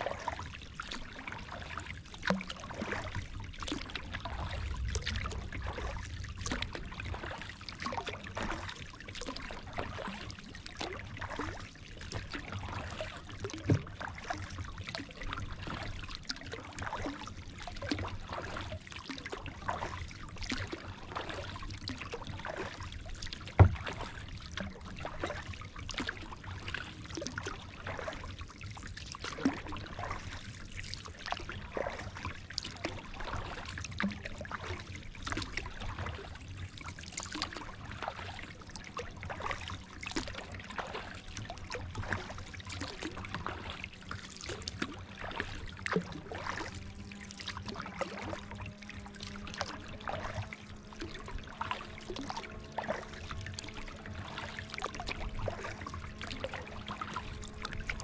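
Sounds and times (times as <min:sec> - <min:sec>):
water lapping at hull: 0:00.0 - 0:58.0
water dripping off paddle: 0:00.1 - 0:11.6, 0:12.2 - 0:26.4, 0:29.0 - 0:58.0.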